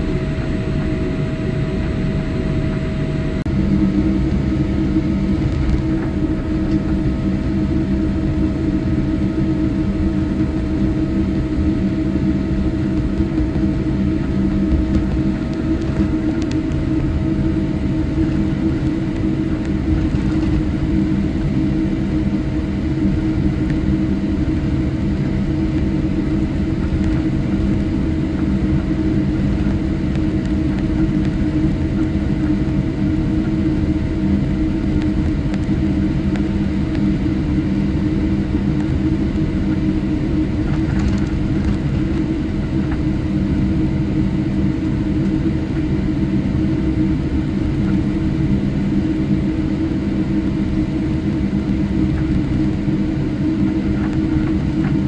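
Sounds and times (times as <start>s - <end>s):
airliner cabin hum and rumble: 0.0s - 55.0s.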